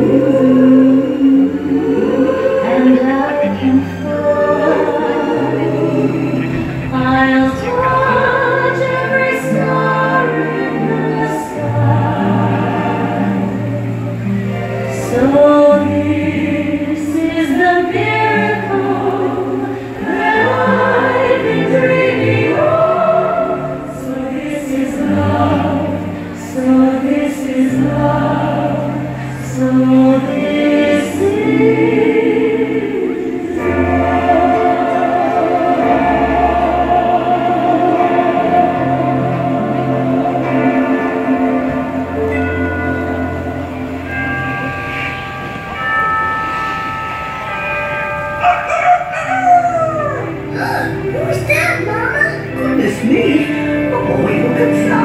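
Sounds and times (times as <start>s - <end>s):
choir singing: 0.0s - 55.0s
orchestral music: 0.0s - 55.0s.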